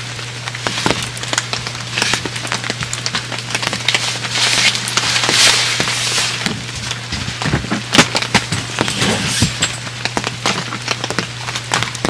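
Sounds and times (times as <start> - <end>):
rain hitting tent: 0.0 - 12.0.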